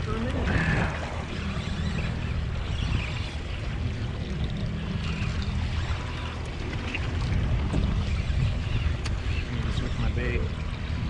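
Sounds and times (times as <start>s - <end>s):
boat motor running: 0.0s - 11.0s
water washing against hull: 0.0s - 11.0s.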